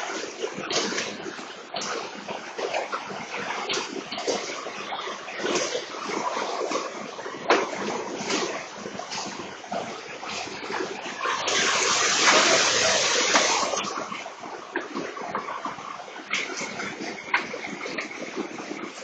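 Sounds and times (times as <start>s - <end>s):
floodwater splashing and rushing: 0.0s - 19.0s.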